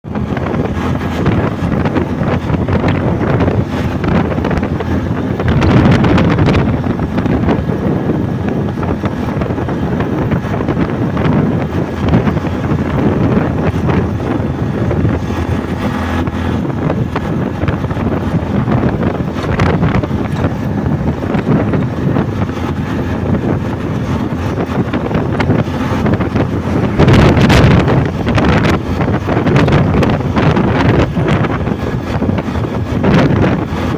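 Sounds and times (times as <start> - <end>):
bike riding noise: 0.0 - 33.9
wind buffeting microphone: 0.0 - 33.9.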